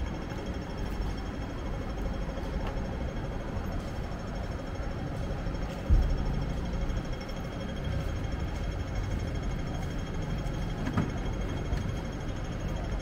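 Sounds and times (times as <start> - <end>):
traffic engines rumbling: 0.0 - 13.0.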